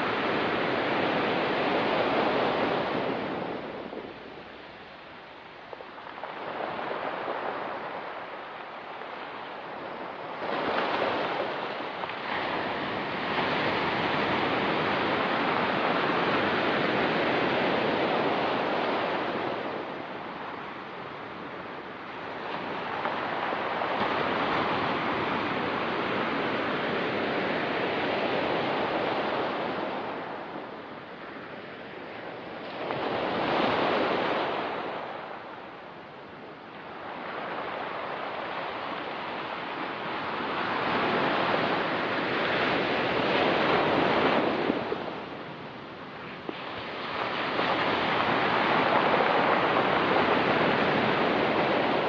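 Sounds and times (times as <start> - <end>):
waves breaking on rocky beach: 0.0 - 52.0.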